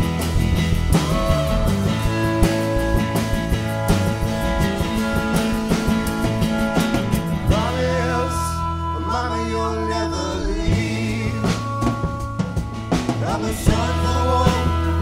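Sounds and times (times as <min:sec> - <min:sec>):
country band music: 0:00.0 - 0:15.0.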